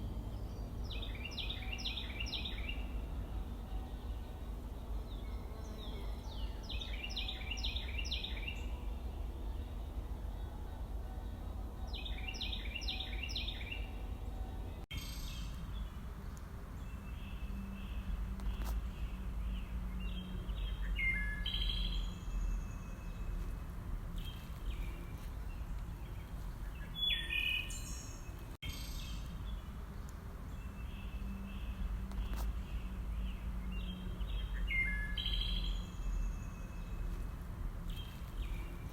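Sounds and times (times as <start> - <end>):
low outdoor rumble: 0.0 - 38.9
wild birds singing: 0.0 - 38.9.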